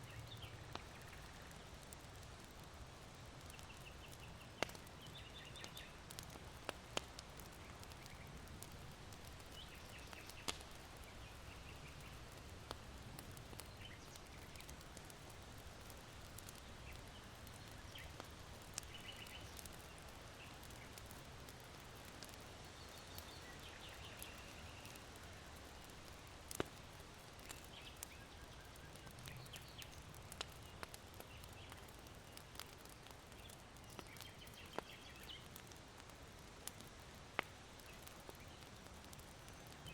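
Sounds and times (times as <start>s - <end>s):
small birds chirping: 0.0s - 35.8s, 36.6s - 39.9s
charcoal fire crackling: 0.0s - 39.9s
low wind rustle: 0.0s - 39.9s.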